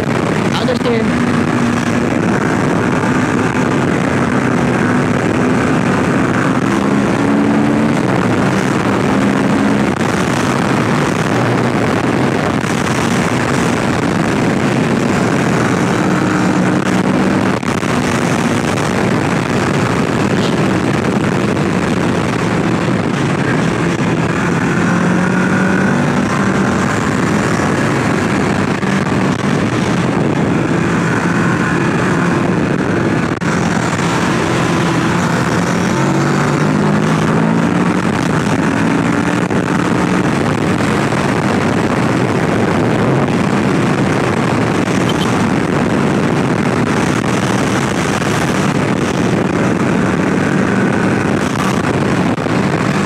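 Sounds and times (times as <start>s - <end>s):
motorcycle engine revving: 0.0s - 53.0s
wind rush on microphone: 0.0s - 53.0s.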